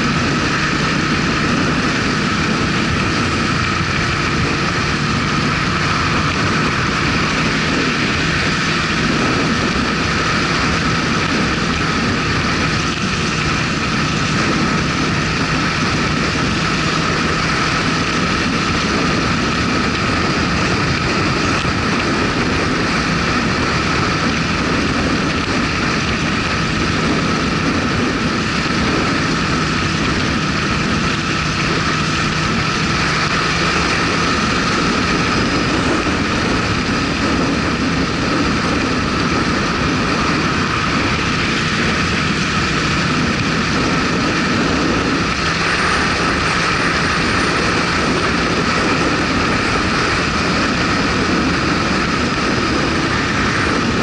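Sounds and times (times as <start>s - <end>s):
motorcycle engine cruising: 0.0s - 54.0s
rushing wind: 0.0s - 54.0s.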